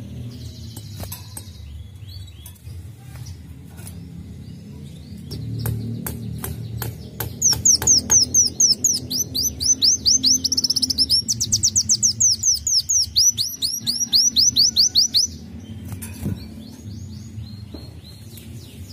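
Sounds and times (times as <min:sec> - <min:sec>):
sunbird singing: 0:00.0 - 0:18.9.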